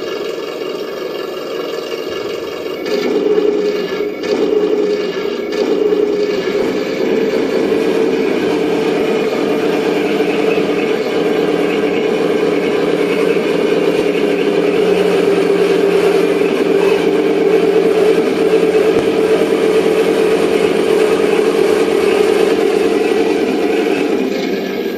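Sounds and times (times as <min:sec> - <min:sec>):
simulated tank engine through speaker: 0:00.0 - 0:24.9.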